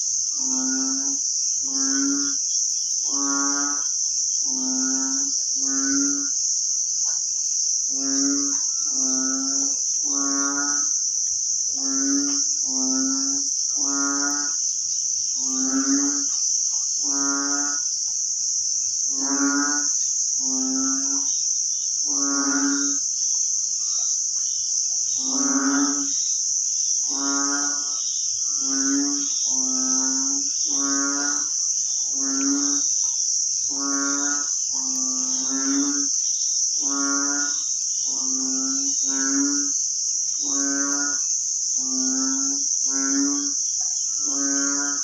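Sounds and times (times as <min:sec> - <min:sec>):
high-pitched insect chorus: 0:00.0 - 0:45.0.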